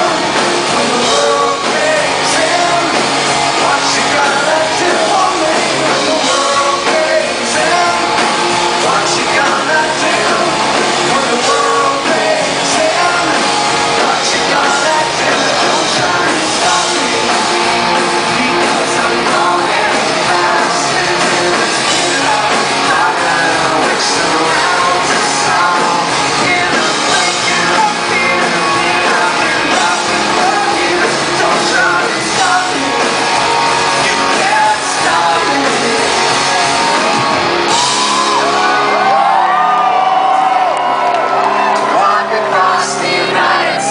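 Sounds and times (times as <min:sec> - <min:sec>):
distorted electric guitars: 0:00.0 - 0:43.9
drums: 0:00.0 - 0:43.9
person singing: 0:00.0 - 0:43.9.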